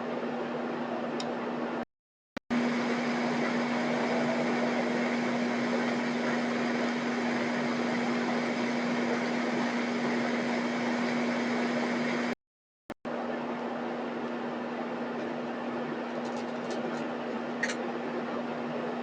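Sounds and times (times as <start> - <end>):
steady mechanical hum: 0.0 - 1.8, 2.5 - 12.4, 13.1 - 19.0.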